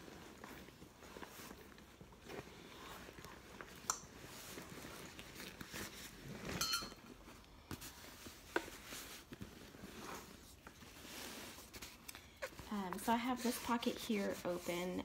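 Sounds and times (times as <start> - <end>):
cloth and leather rustling: 0.0 - 15.0.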